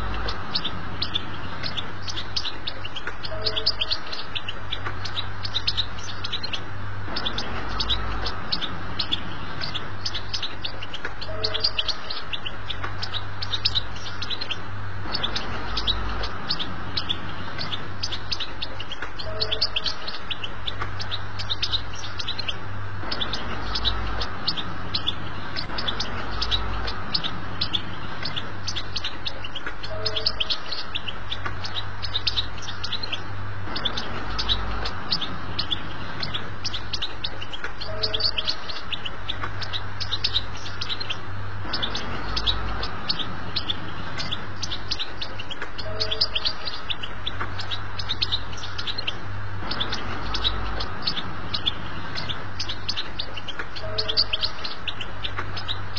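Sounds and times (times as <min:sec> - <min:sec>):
goldfinch twittering song: 0:00.0 - 0:55.9
low steady hum: 0:00.0 - 0:55.9.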